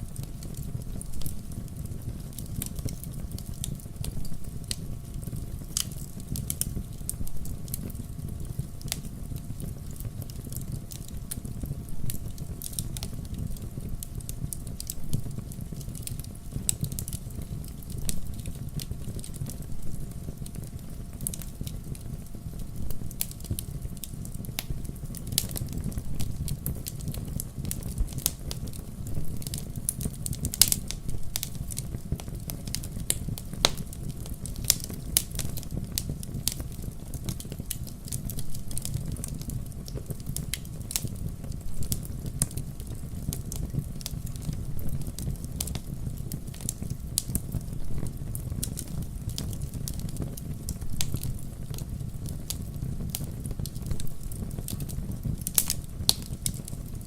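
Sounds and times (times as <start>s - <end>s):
fire snaps: 0.0s - 57.0s
low rumble of flames: 0.0s - 57.0s
wood fire crackling and popping: 0.0s - 57.0s.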